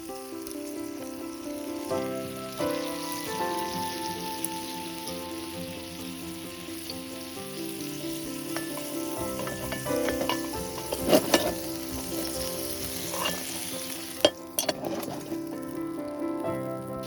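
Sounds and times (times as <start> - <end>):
background music: 0.0 - 17.0
food sizzling over campfire: 0.0 - 17.0.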